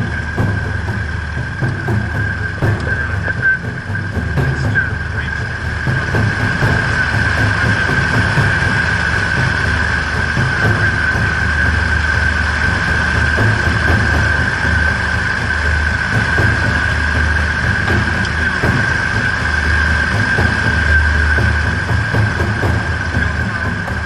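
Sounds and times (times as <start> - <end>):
aircraft engine low rumble: 0.0 - 24.0
steady high whine: 0.0 - 24.0.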